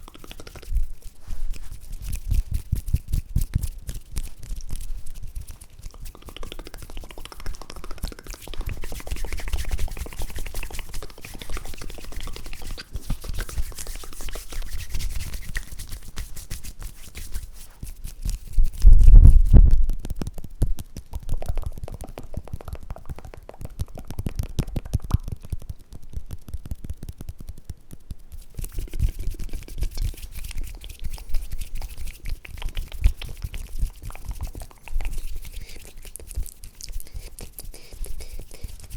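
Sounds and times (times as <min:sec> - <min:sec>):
wet mouth clicks: 0:00.0 - 0:38.9.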